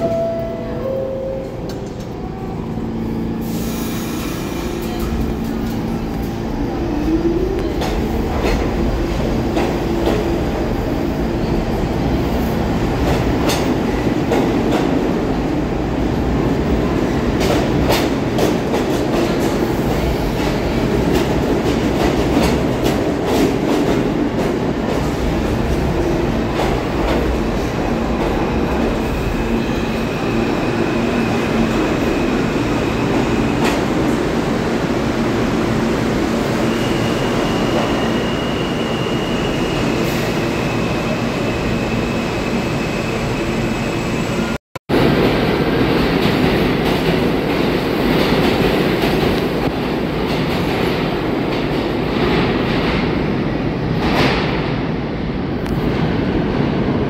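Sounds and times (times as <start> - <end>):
subway train motor and rumble: 0.0 - 57.0.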